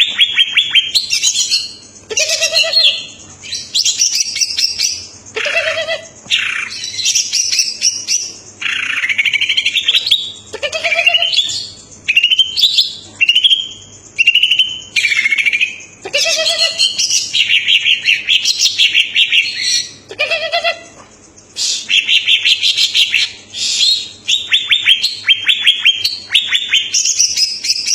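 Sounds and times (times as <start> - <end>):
bird singing trills and whistles: 0.0 - 27.9.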